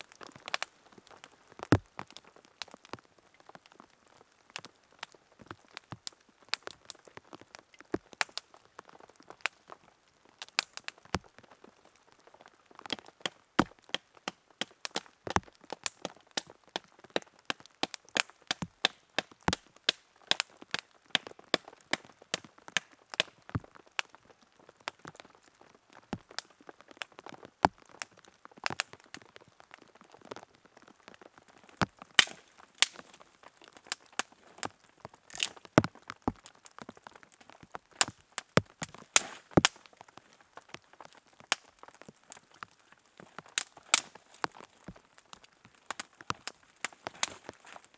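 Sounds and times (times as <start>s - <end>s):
fire crackling: 0.0s - 47.9s
rain pattering on tarp: 0.0s - 47.9s.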